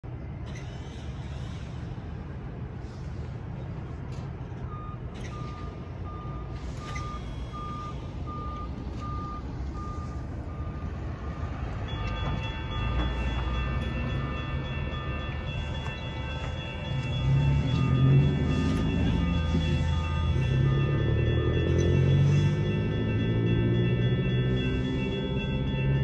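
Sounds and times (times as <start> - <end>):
road traffic rumble: 0.0 - 26.0
railroad crossing bell ringing: 4.6 - 26.0.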